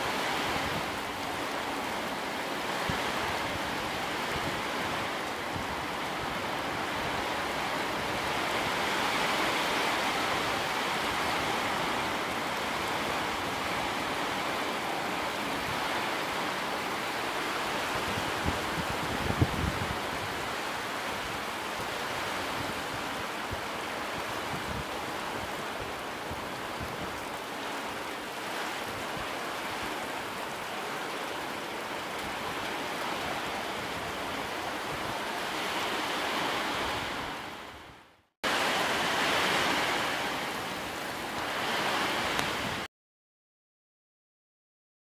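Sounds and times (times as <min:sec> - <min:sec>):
heavy rain: 0:00.0 - 0:42.9
storm wind: 0:00.0 - 0:42.9.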